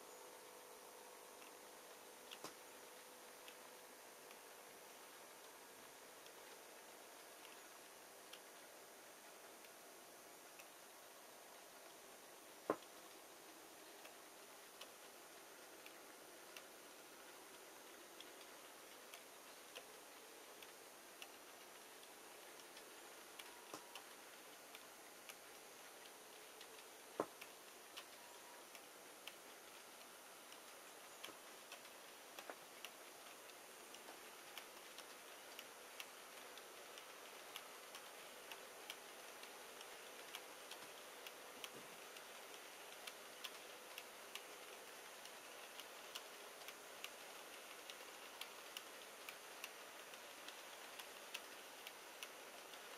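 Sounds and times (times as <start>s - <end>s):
model train wheels clicking on rail joints: 0.0s - 52.9s.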